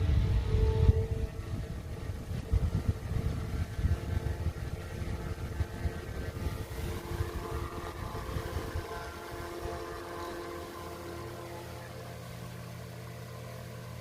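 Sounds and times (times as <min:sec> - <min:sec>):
uneven low rumble: 0:00.0 - 0:13.8
electric fan motor hum: 0:00.0 - 0:14.0.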